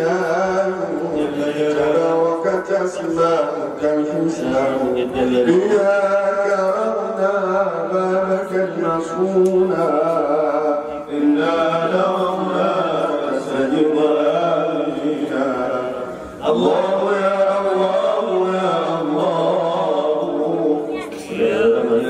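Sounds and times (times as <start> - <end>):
men chanting religious chant: 0.0 - 22.0.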